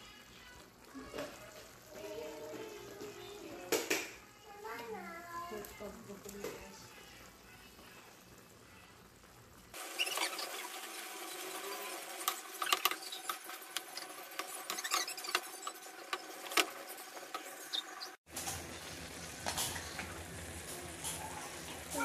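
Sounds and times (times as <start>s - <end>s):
sauce sizzling and popping: 0.0s - 22.0s.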